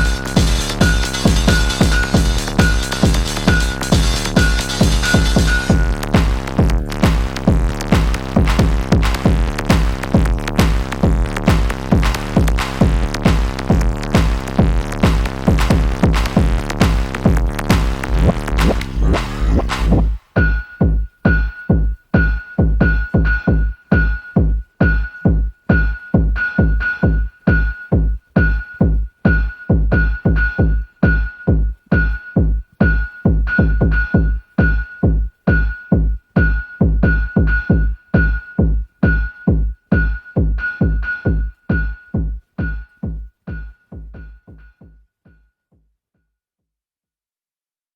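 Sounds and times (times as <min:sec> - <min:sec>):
electronic techno music: 0:00.0 - 0:44.9.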